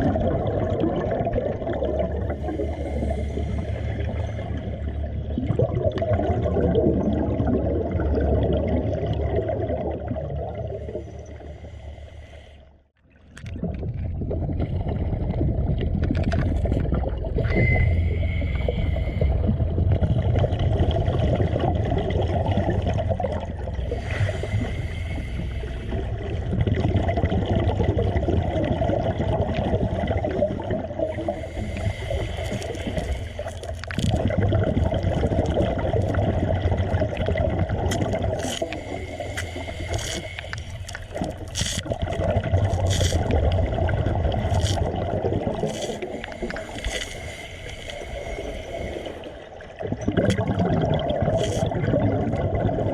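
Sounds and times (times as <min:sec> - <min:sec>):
gurgling water: 0:00.0 - 0:52.9.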